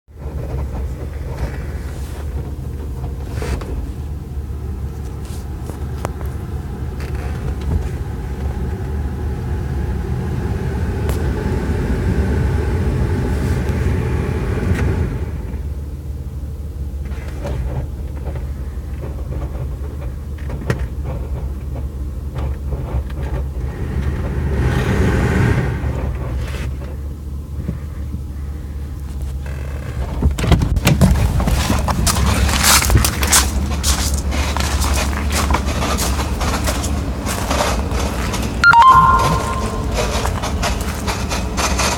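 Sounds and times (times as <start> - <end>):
car engine low rumble: 0.1 - 38.6
strange engine noise: 0.1 - 41.9.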